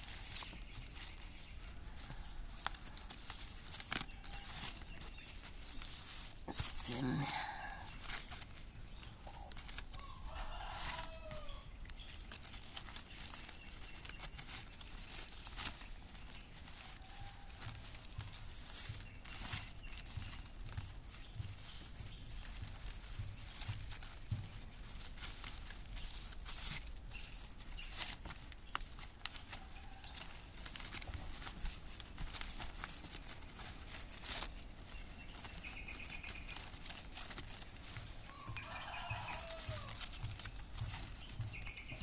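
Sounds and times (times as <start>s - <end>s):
dry leaf strips rustling and crinkling: 0.0s - 42.0s.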